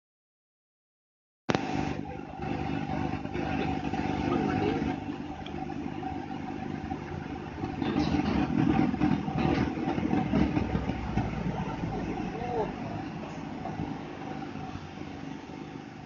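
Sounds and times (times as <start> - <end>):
vehicle engine hum: 1.6 - 16.0
road traffic noise: 1.8 - 16.0.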